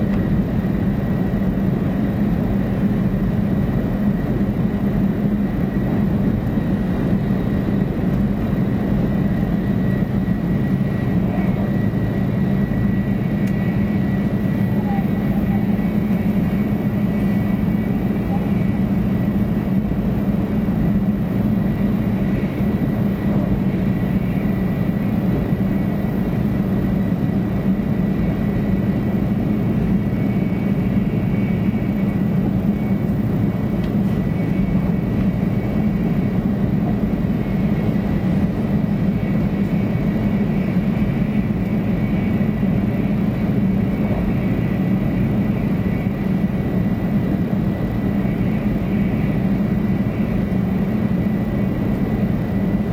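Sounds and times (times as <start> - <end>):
faint high whine: 0.0 - 52.9
train cabin low rumble: 0.0 - 52.9.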